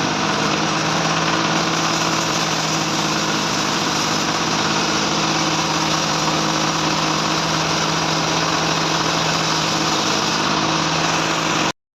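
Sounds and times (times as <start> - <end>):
band sawmill humming: 0.0 - 11.7.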